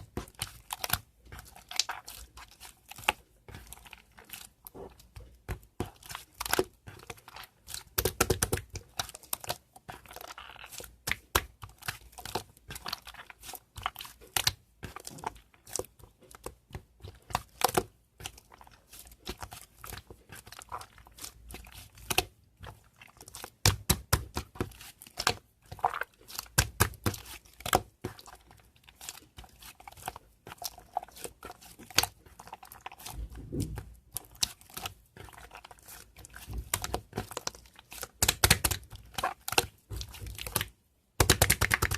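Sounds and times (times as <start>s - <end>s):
slime crackling being kneaded: 0.0s - 41.9s
slime squelching: 0.0s - 41.9s.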